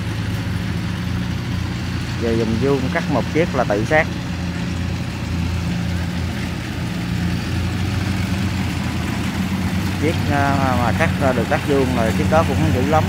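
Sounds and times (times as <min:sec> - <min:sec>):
combine harvester engines humming: 0:00.0 - 0:13.0.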